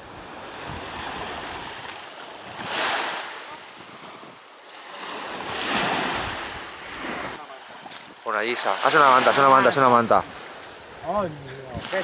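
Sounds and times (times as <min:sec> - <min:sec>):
sea surf breaking and washing: 0:00.0 - 0:12.0.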